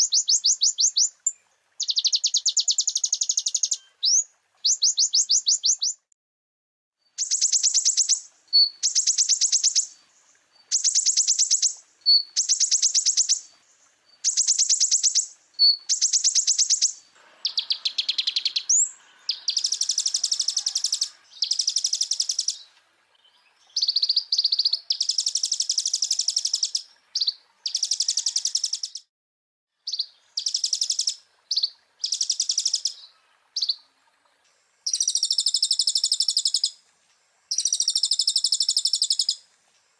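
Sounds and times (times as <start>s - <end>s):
sunbird high trilled song: 0.0s - 6.1s, 7.1s - 10.0s, 10.6s - 29.1s, 29.8s - 33.8s, 34.9s - 36.8s, 37.5s - 39.4s.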